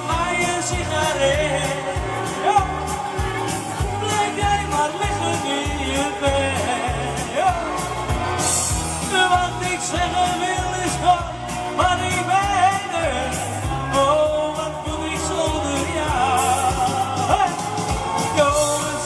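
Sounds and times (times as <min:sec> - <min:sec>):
live instrumental pop music: 0:00.0 - 0:19.0.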